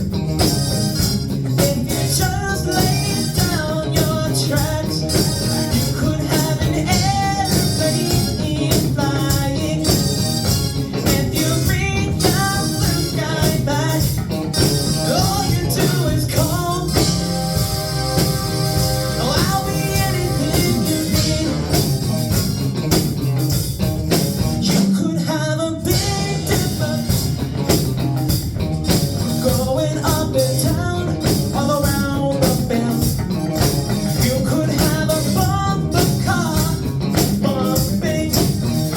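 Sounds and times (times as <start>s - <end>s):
pop-rock song with singing: 0.0s - 38.9s.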